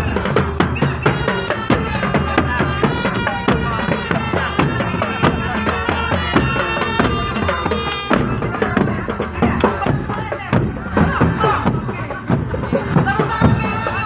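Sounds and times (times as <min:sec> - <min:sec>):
marching drum band playing: 0:00.0 - 0:14.0.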